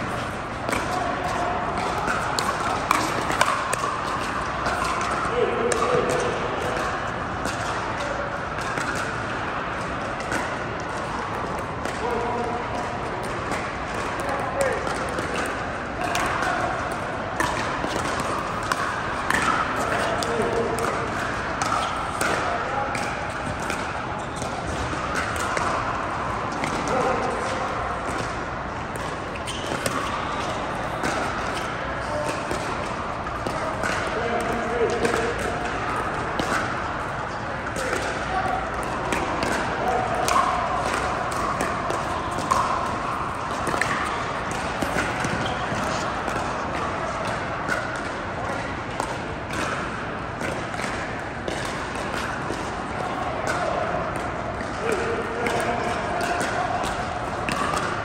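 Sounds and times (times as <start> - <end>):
paddles tapping balls: 0.0 - 58.0
sports hall background noise: 0.0 - 58.0.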